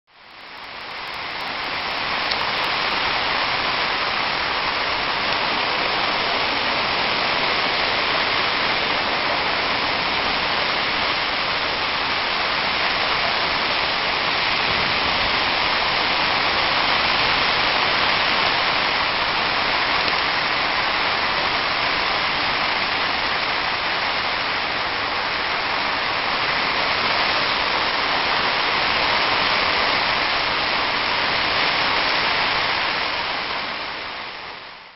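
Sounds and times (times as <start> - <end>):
heavy rain in strong wind: 0.1 - 34.9.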